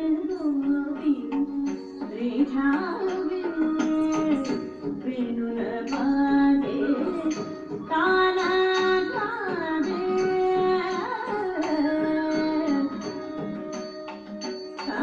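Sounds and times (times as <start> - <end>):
person singing long gliding notes: 0.0 - 14.0
instrumental accompaniment: 0.0 - 15.0.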